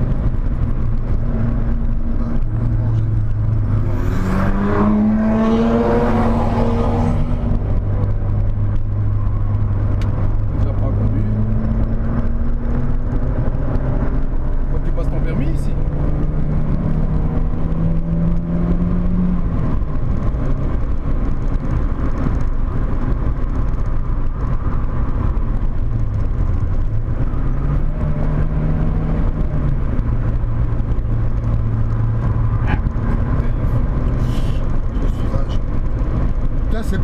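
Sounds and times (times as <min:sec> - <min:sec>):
car engine running: 0:00.0 - 0:37.0
road and wind noise: 0:00.0 - 0:37.0.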